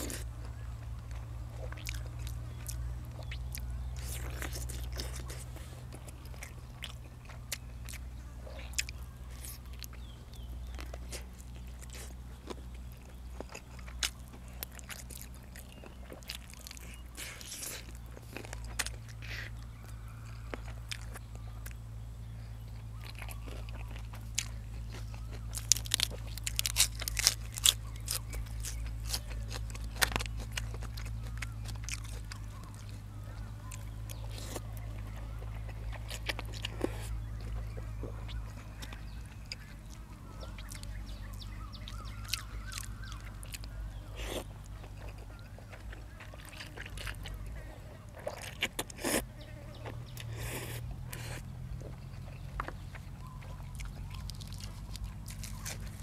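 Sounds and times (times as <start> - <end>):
person chewing crunchy food: 0.0 - 56.0
steady low hum: 0.0 - 56.0.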